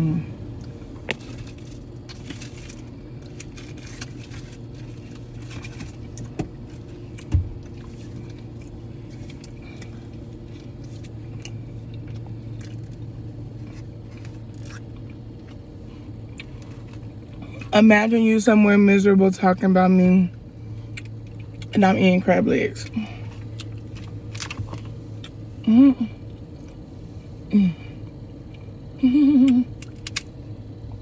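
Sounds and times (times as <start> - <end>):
air conditioner hum: 0.0 - 31.0.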